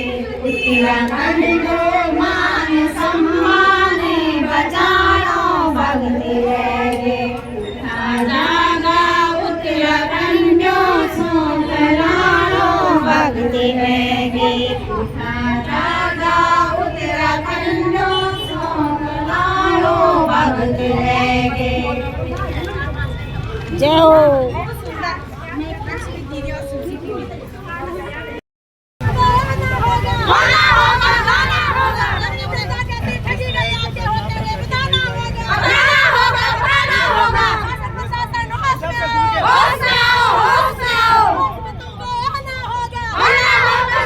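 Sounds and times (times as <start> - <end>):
women singing in unison: 0.0 - 23.0, 29.0 - 44.0.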